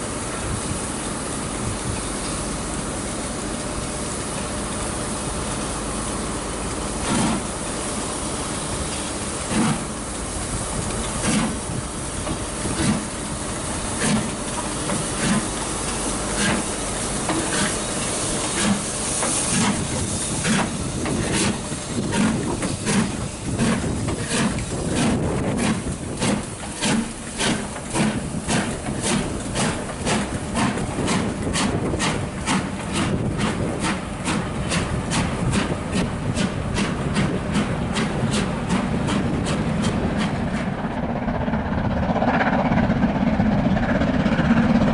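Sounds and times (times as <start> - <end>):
steam hissing: 0.0 - 40.8
steam locomotive exhaust beats: 0.0 - 44.9.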